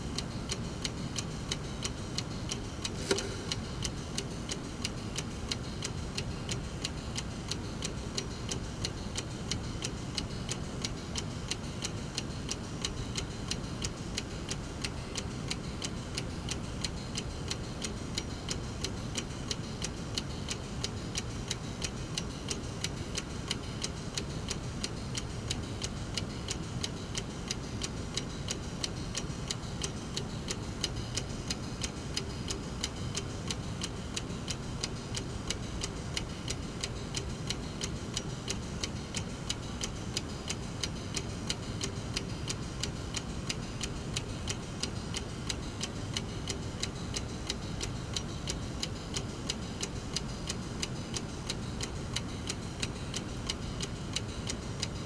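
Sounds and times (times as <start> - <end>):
mechanical clock ticking: 0.0 - 55.0.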